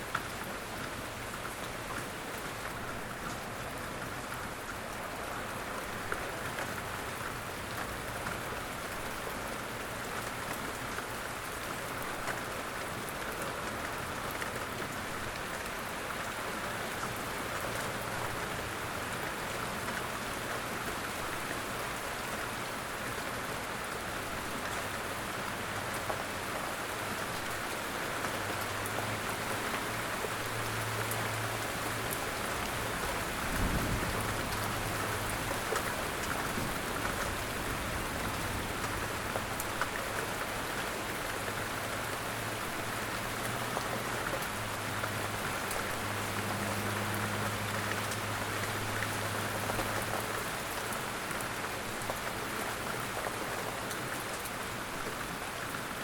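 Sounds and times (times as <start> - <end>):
light rain pattering: 0.0 - 56.0.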